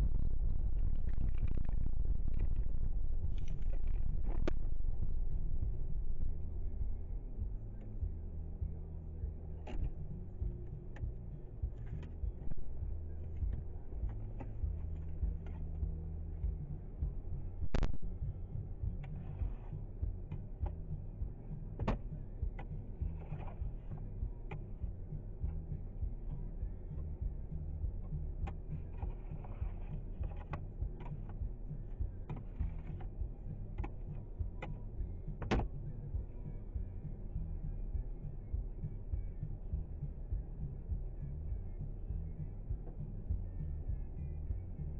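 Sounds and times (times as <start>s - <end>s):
car engine and road drone: 0.0s - 44.9s.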